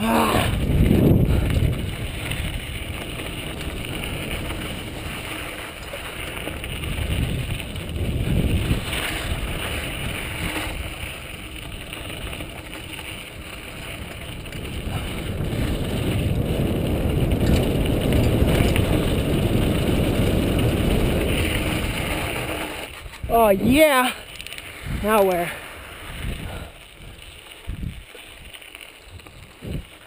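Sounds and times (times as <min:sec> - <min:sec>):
bike rattling over bumps: 0:00.0 - 0:30.0
bike tyres on dirt: 0:00.0 - 0:30.0
wind buffeting microphone: 0:00.0 - 0:30.0.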